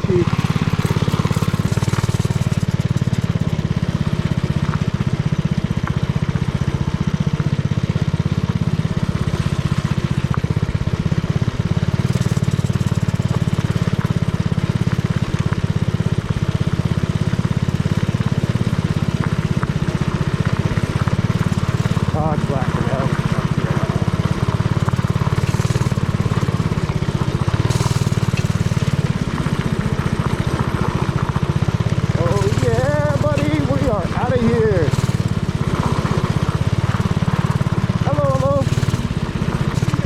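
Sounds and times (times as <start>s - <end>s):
small engine puttering: 0.0s - 40.0s.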